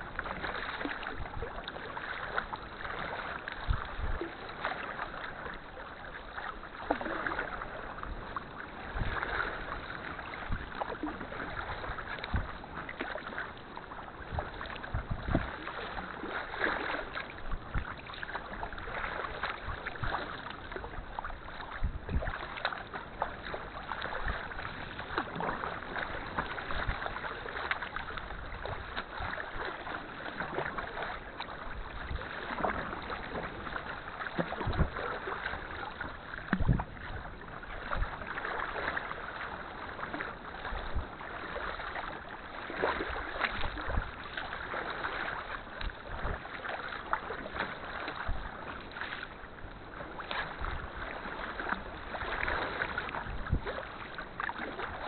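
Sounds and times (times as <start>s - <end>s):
paddle blades splashing: 0.0s - 55.0s
water sloshing against hull: 0.0s - 55.0s.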